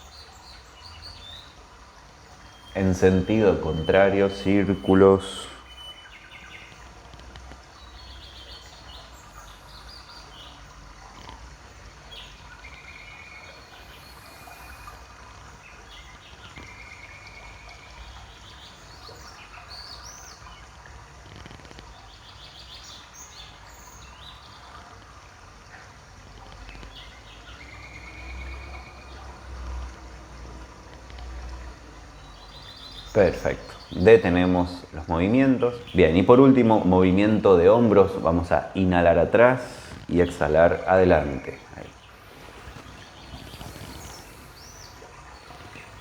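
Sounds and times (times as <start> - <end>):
background hiss: 0.0 - 46.0
small birds chirping: 0.0 - 46.0.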